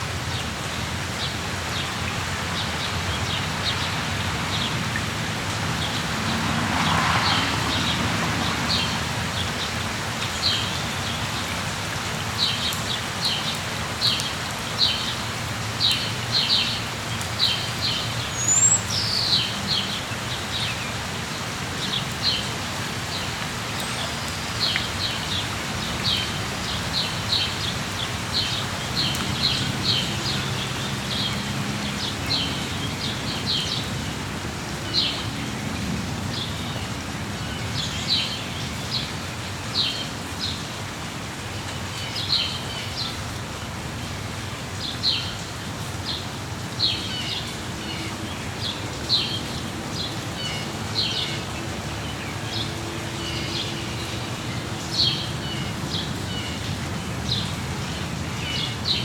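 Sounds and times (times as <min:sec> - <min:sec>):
rain falling: 0:00.0 - 0:59.0
songbirds chirping: 0:05.7 - 0:59.0.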